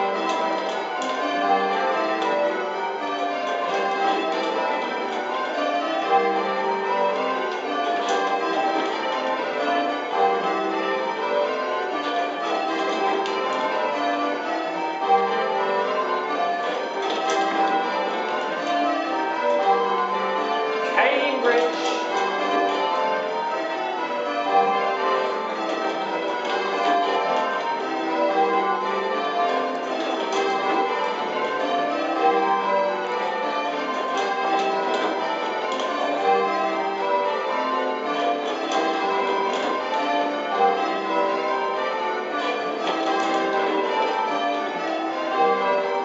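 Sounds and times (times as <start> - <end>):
tower bells ringing: 0.0 - 46.0.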